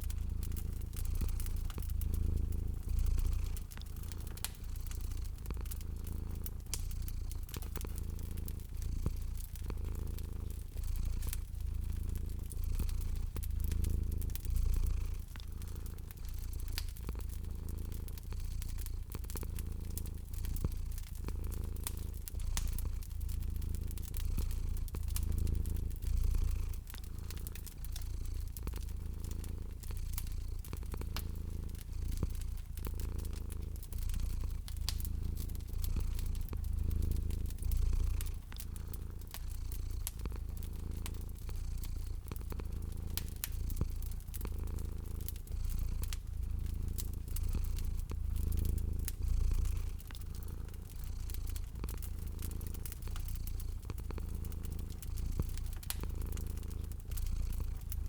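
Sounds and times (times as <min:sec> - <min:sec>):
cat purring: 0:00.0 - 0:58.0
wood fire crackling and popping: 0:00.0 - 0:58.0.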